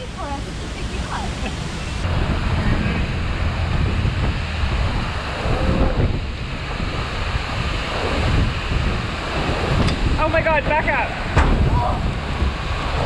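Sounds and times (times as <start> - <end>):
churning water: 0.0 - 13.0
waterfall roaring: 0.0 - 13.0
wind buffeting microphone: 0.0 - 13.0.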